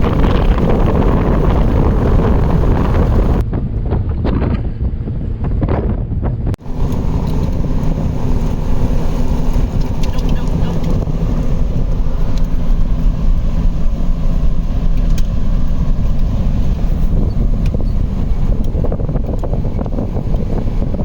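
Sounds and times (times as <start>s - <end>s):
vehicle engine rumble: 0.0s - 21.0s
wind: 0.0s - 21.0s.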